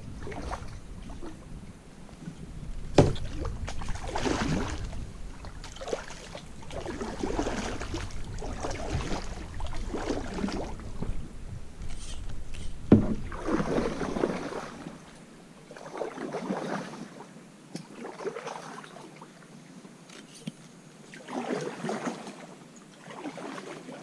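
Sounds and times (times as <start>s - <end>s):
paddle splashing through water: 0.0s - 1.4s, 2.9s - 11.2s, 12.0s - 17.2s, 17.8s - 19.2s, 21.1s - 24.0s.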